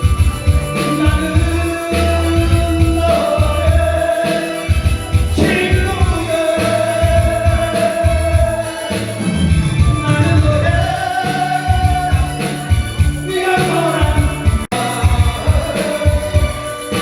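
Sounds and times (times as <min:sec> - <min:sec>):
pulsing bass beat: 0:00.0 - 0:17.0
person singing long notes: 0:00.8 - 0:17.0.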